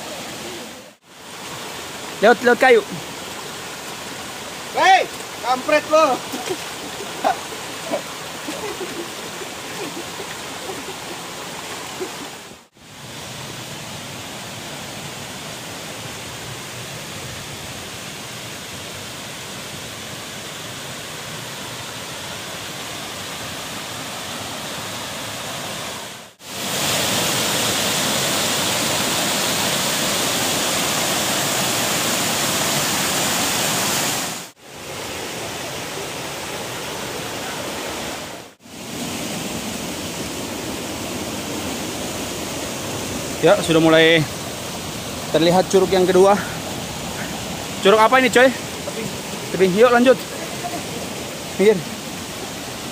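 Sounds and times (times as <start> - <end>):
waterfall and stream rushing: 0.0 - 52.9.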